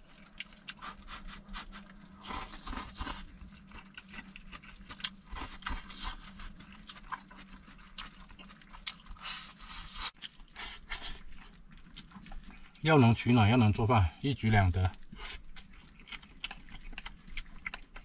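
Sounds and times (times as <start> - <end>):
person chewing: 0.0 - 12.8, 14.9 - 18.0.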